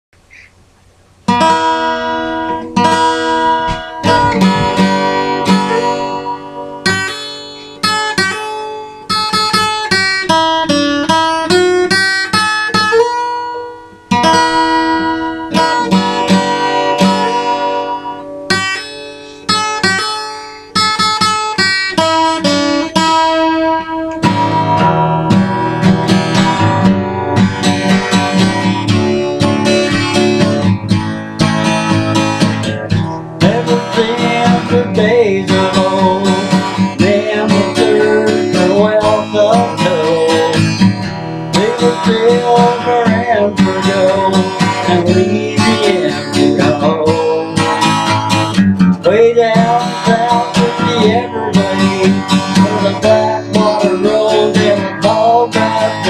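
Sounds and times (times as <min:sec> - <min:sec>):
acoustic guitar picked melody: 0:00.2 - 0:56.0
acoustic guitar strummed chords: 0:00.2 - 0:56.0.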